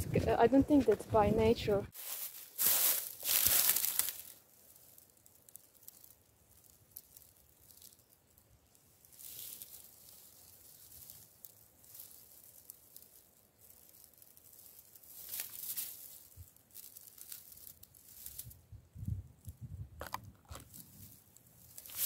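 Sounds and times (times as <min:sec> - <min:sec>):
dry grass rustling underfoot: 0:00.2 - 0:22.0.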